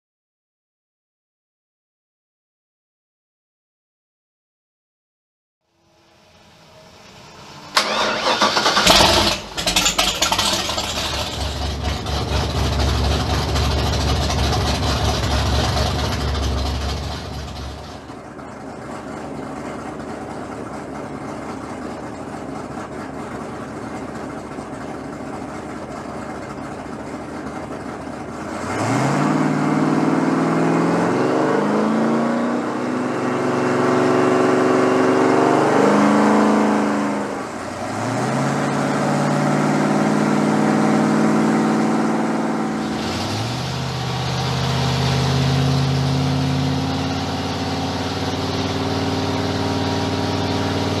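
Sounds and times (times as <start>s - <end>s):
vee eight engine revving and idling: 6.0s - 51.0s.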